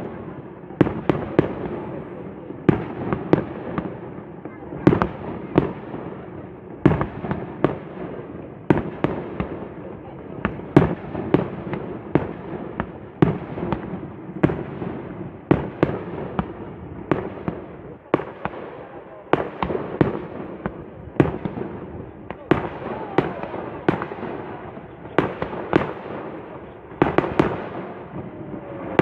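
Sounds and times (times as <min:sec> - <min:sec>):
firework bursts and bangs: 0:00.0 - 0:29.0
fireworks crackling and rumbling: 0:00.0 - 0:29.0.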